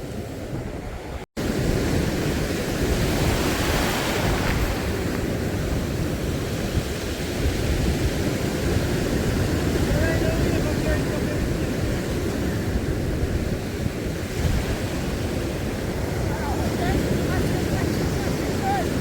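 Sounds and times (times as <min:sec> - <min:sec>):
sea surf washing on beach: 0:00.0 - 0:19.0
wind buffeting microphone: 0:00.0 - 0:19.0.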